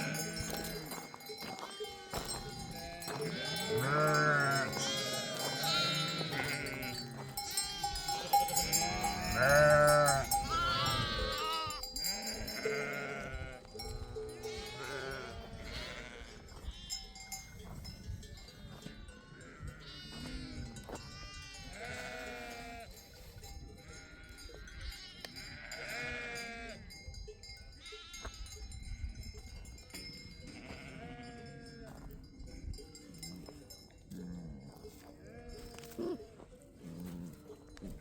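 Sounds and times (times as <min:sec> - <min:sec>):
sheep and goats bleating: 0:00.0 - 0:38.0.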